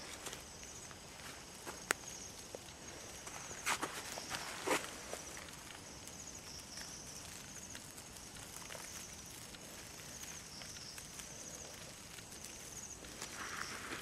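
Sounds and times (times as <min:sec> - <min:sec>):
insects chirping in high trills: 0:00.0 - 0:14.0
rustles in dry leaf litter: 0:00.0 - 0:14.0.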